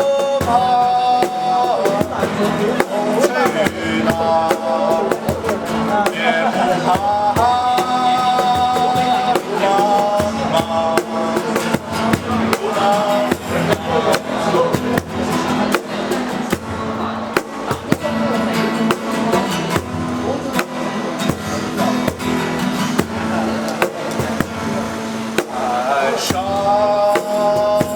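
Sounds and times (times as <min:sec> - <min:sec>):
drum kit beat: 0:00.0 - 0:27.9
guitar: 0:00.0 - 0:27.9.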